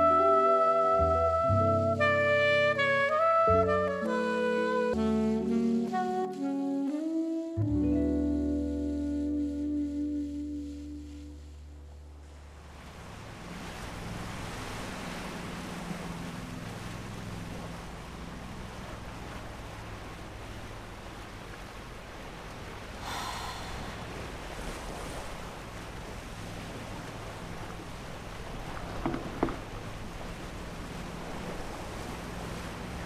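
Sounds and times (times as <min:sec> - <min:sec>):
sea noise: 0:00.0 - 0:33.0
ship low hum: 0:00.0 - 0:33.0
wind: 0:00.0 - 0:33.0.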